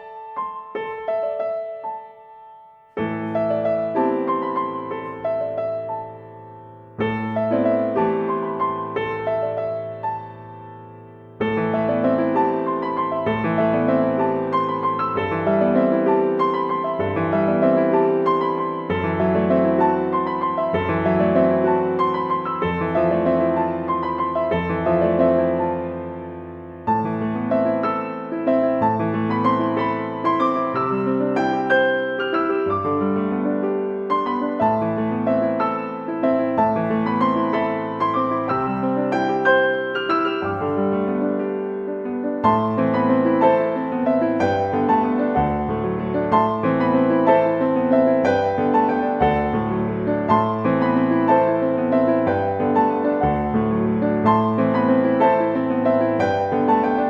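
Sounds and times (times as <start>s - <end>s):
calm piano music: 0.0s - 57.0s.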